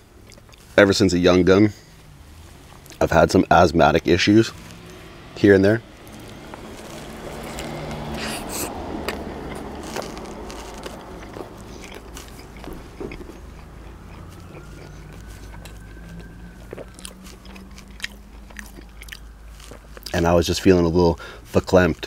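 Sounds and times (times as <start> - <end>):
biting and chewing burger: 0.0 - 22.0
faint background whine: 0.0 - 22.0
steady low hum: 0.0 - 22.0.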